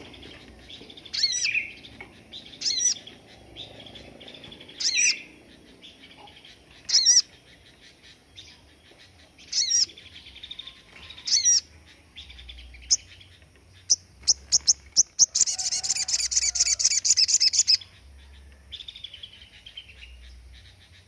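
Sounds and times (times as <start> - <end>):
songbird chattering trills: 0.0 - 21.0.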